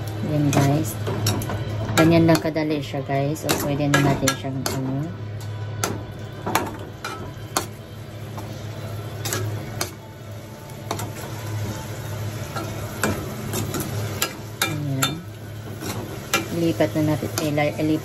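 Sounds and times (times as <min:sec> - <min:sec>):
light sizzle: 0:00.0 - 0:18.0.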